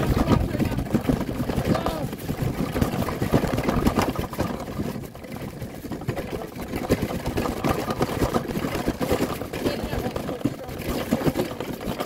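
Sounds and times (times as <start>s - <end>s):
wagon rumbling over rocks: 0.0s - 12.0s.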